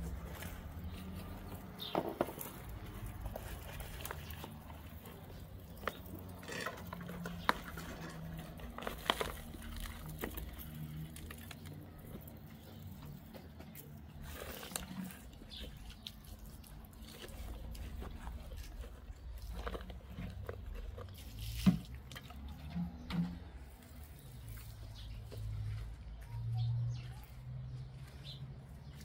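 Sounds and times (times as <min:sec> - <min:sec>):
plants and soil rustling: 0:00.0 - 0:29.0.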